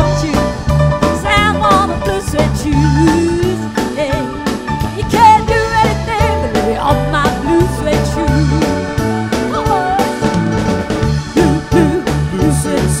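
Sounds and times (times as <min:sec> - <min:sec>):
woman singing lead vocal: 0:00.0 - 0:08.9, 0:11.4 - 0:13.0
drum kit: 0:00.0 - 0:13.0
electric bass: 0:00.0 - 0:13.0
keyboard: 0:00.0 - 0:13.0.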